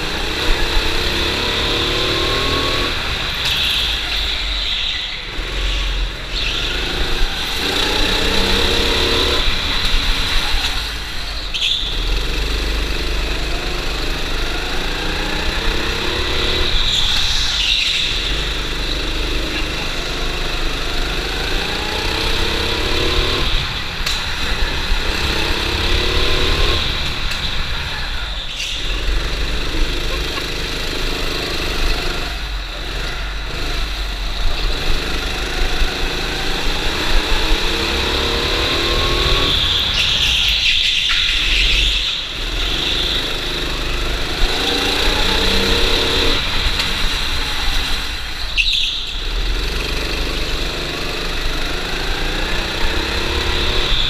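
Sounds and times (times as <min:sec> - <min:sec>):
go-kart engine: 0:00.0 - 0:54.0.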